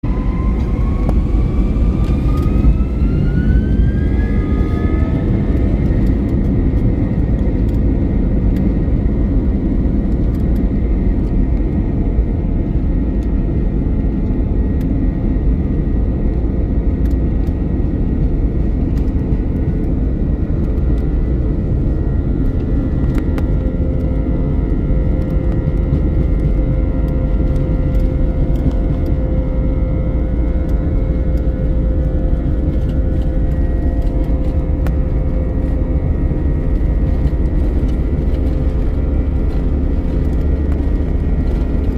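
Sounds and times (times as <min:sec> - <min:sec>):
airplane taking off rumble: 0:00.0 - 0:41.9
jet engine whine: 0:00.0 - 0:41.9.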